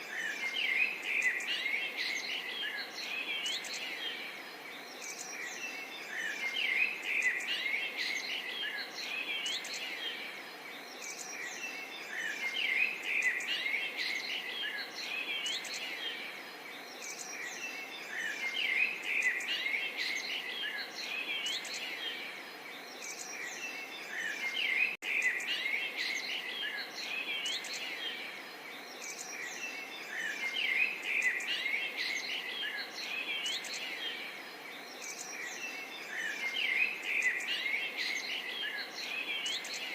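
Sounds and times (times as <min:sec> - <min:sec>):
background hiss: 0:00.0 - 0:39.9
birds chirping and twittering: 0:00.0 - 0:39.9.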